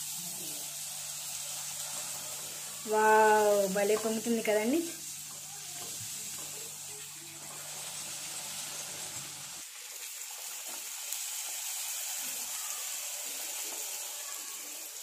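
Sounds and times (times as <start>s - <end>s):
dough sizzling in hot oil: 0.0s - 15.0s.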